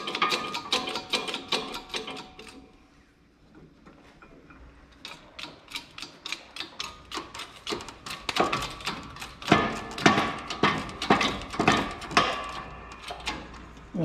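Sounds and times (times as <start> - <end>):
hydraulic press pump clanking: 0.0 - 2.7, 5.0 - 13.9.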